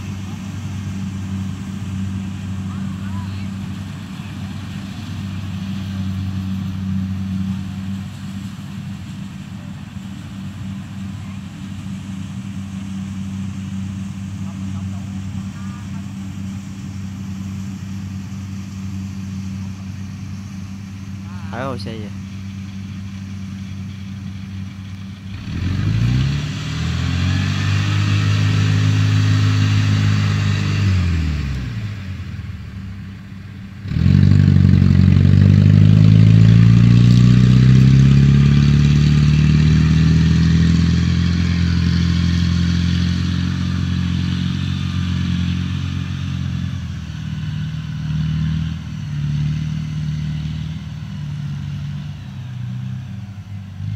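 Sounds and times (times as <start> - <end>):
diesel engine idling and revving: 0.0 - 53.9.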